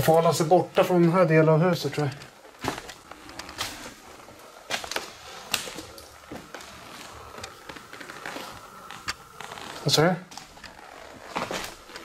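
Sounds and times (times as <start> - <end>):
footsteps crunching over debris: 0.0 - 12.0.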